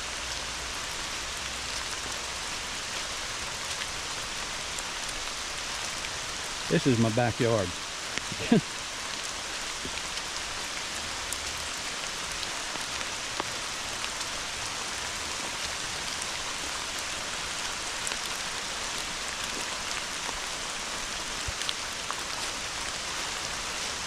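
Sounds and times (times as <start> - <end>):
hard rain on ground and foliage: 0.0 - 24.0.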